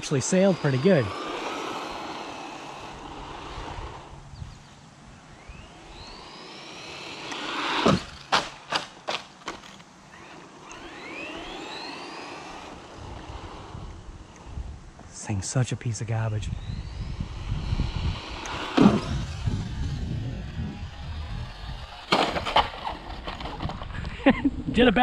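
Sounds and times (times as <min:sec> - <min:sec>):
toy car electric motor whining: 0:00.0 - 0:14.8, 0:16.4 - 0:23.9.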